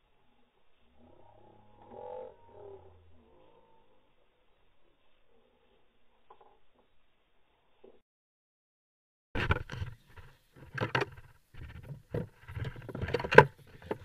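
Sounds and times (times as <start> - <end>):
rustling: 0.0 - 8.0, 9.4 - 14.0.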